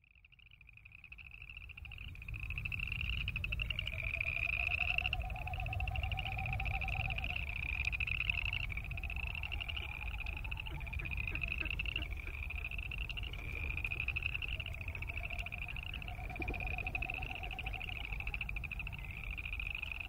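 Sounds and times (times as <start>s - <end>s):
frogs trilling: 0.0s - 20.0s.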